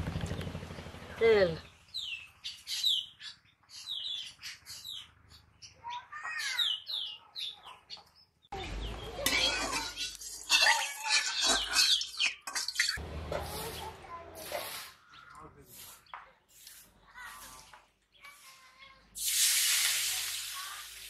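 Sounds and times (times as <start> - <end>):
birds chirping: 0.0 - 19.2.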